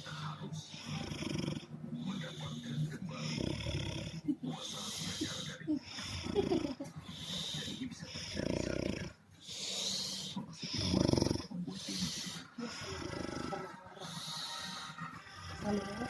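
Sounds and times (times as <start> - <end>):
person snoring: 0.0 - 16.0.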